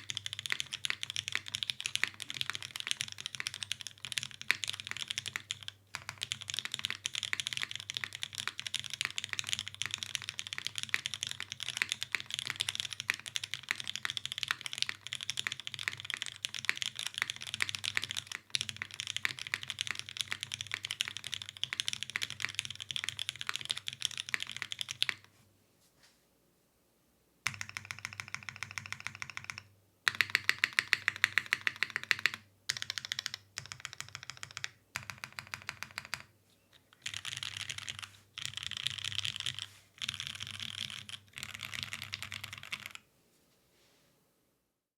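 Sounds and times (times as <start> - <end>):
mechanical keyboard typing: 0.0 - 25.3, 27.4 - 36.3, 36.9 - 43.0.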